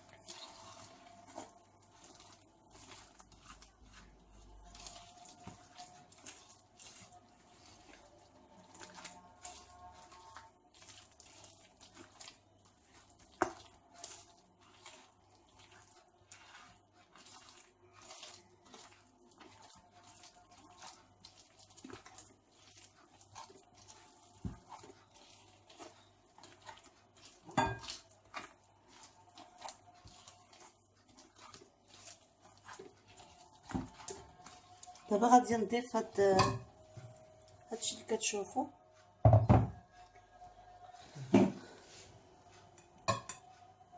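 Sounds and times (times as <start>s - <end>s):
batter being stirred in a bowl: 0.0s - 43.9s.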